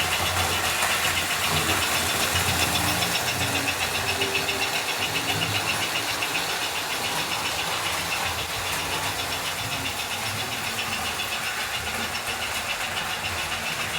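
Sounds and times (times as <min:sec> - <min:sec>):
model train motor whirring: 0:00.0 - 0:13.9.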